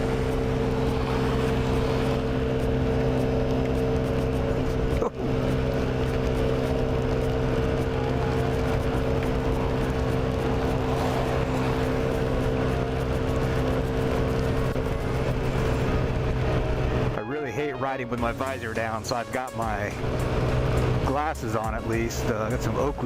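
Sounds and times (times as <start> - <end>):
rain noise: 0.0 - 17.2, 18.2 - 23.0
scooter engine running: 0.0 - 17.2, 18.2 - 23.0.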